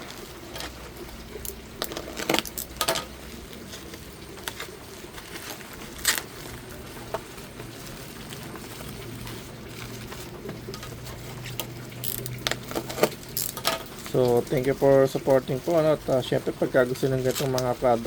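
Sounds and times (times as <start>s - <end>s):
parcel packaging crinkling: 0.0s - 18.0s.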